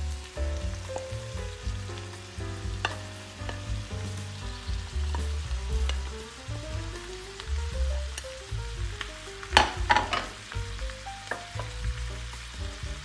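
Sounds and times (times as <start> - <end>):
background music with bass line: 0.0 - 13.0
food sizzling in a pan: 0.0 - 13.0.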